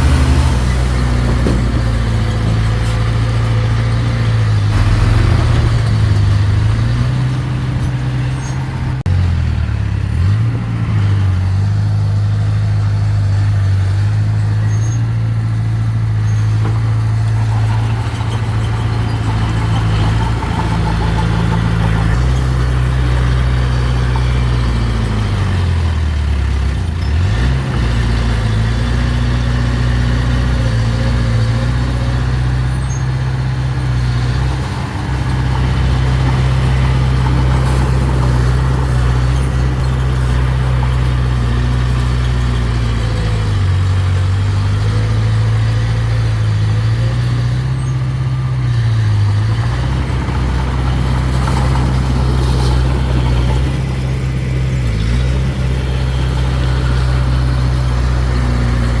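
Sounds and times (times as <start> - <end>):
diesel bulldozer engine running: 0.0 - 59.0.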